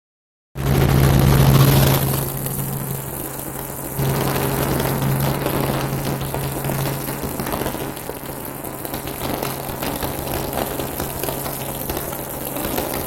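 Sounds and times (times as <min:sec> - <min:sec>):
helicopter engine and rotor drone: 0:00.6 - 0:13.0.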